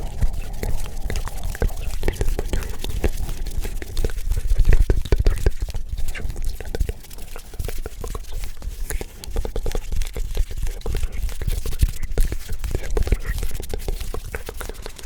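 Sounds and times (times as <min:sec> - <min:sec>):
hands clicking and thumping on microphone: 0:00.0 - 0:15.0.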